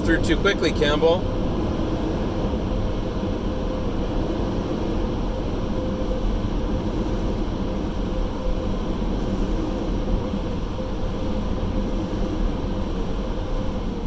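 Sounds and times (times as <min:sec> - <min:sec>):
blower dryers rushing air: 0:00.0 - 0:14.0
constant hum: 0:00.0 - 0:14.0.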